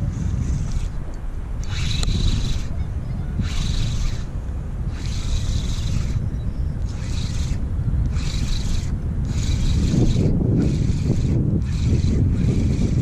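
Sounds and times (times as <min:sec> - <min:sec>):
fishing reel whirring: 0:00.0 - 0:01.0, 0:01.6 - 0:02.8, 0:03.4 - 0:13.0
wind rumble on microphone: 0:00.0 - 0:13.0.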